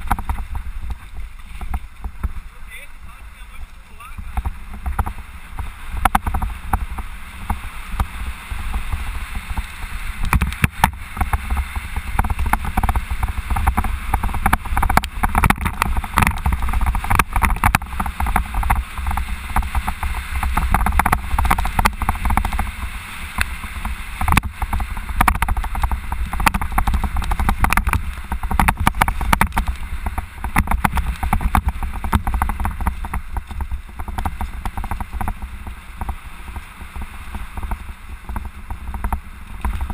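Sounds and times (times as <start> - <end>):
bike clattering over bumps: 0.0 - 2.5, 4.1 - 39.9
wind and rolling tyres: 0.0 - 39.9.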